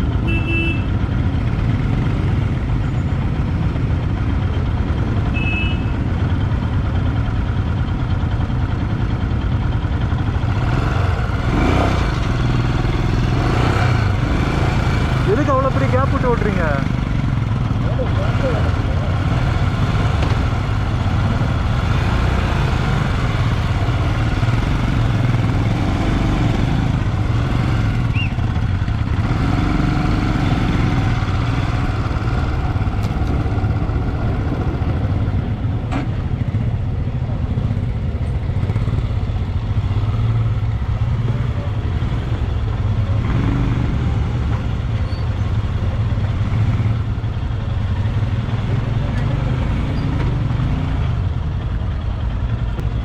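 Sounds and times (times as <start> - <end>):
motorcycle engine droning: 0.0 - 53.0
road noise: 0.0 - 53.0.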